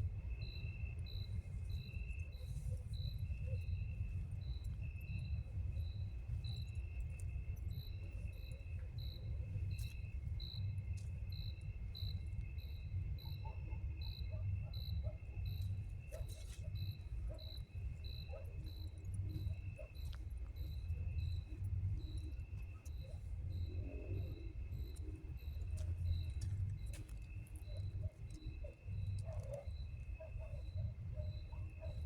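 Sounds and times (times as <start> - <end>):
constant low rumble: 0.0 - 32.0
crickets trilling: 0.0 - 32.0
insect chirping: 0.0 - 32.0.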